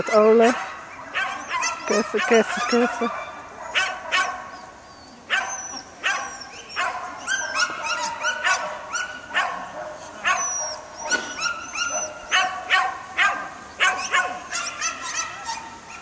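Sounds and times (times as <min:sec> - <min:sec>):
dog barking sharply: 0:00.0 - 0:04.5, 0:05.3 - 0:15.6.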